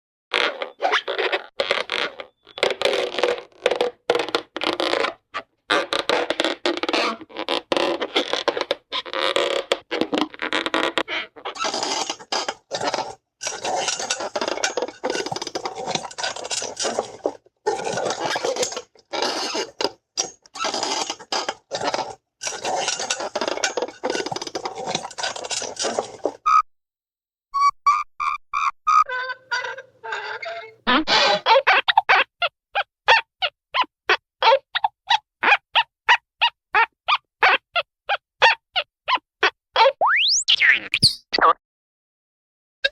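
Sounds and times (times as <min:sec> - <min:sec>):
cartoon squeaks: 0:00.3 - 0:03.4, 0:04.2 - 0:19.8, 0:24.8 - 0:26.7, 0:27.5 - 0:41.6.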